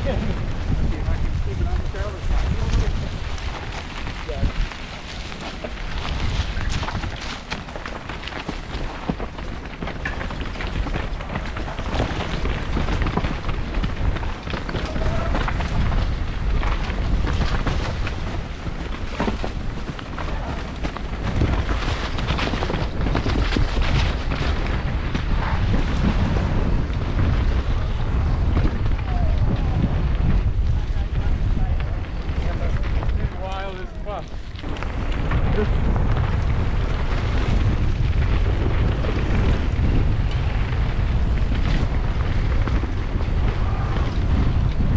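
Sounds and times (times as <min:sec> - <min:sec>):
bike clattering over bumps: 0:00.0 - 0:44.9
tyres rolling over dirt: 0:00.0 - 0:44.9
wind rushing over microphone: 0:00.0 - 0:44.9.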